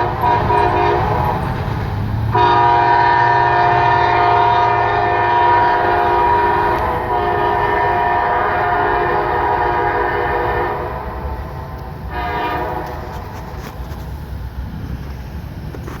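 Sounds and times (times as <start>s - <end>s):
locomotive air horn: 0.0s - 1.7s, 2.3s - 14.0s
locomotive engines rumbling: 0.0s - 16.0s.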